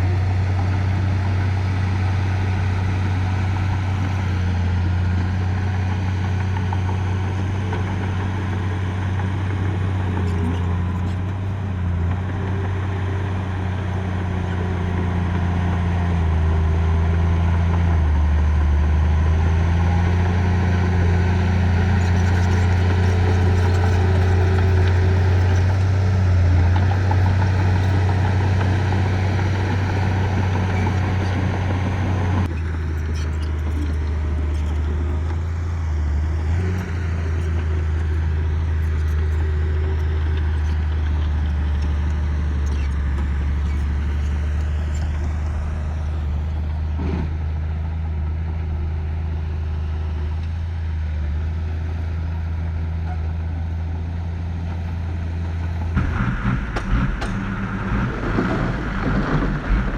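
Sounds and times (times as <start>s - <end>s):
diesel engine deep drone: 0.0s - 59.9s.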